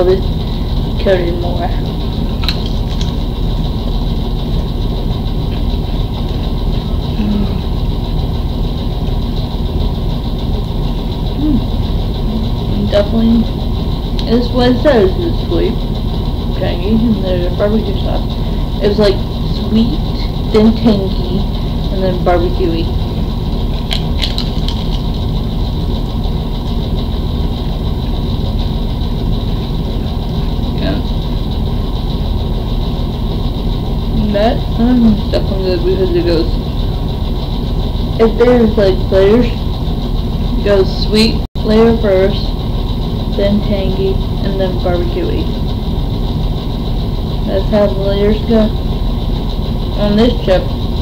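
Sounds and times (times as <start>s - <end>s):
low rumbling noise: 0.0s - 51.0s.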